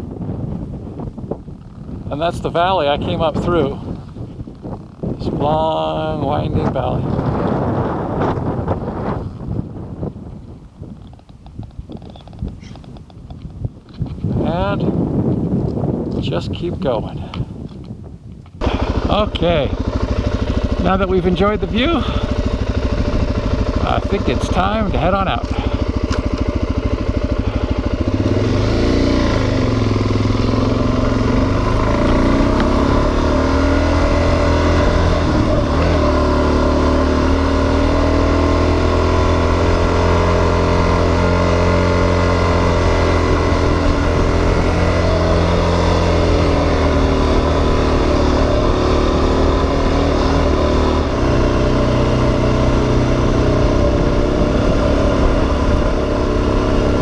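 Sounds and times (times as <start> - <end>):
motorcycle engine running: 0.0 - 15.8, 18.5 - 57.0.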